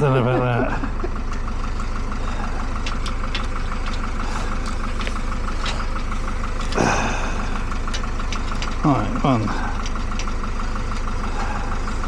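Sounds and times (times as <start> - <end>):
engine running: 0.0 - 12.0
fast even ticking: 1.0 - 12.0.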